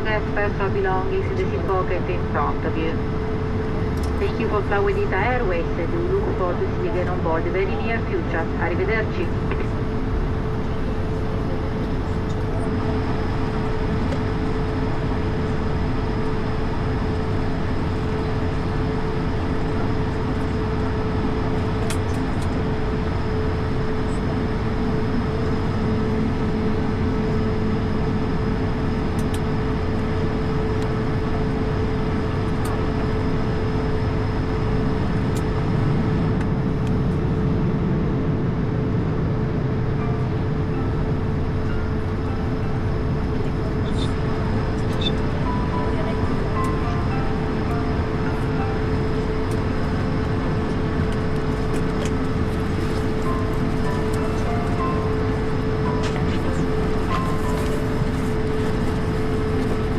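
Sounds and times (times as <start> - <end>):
jet engines idling drone: 0.0 - 59.9.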